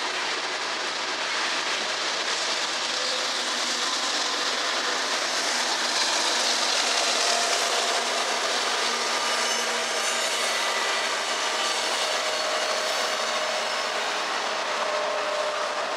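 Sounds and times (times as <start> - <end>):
diesel locomotive engines running: 0.0 - 15.9
steel wheels rolling on rail: 0.0 - 15.9.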